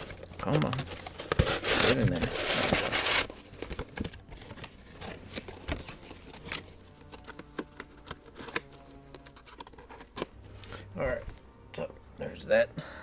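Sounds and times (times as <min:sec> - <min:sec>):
packaging being handled: 0:00.0 - 0:10.8.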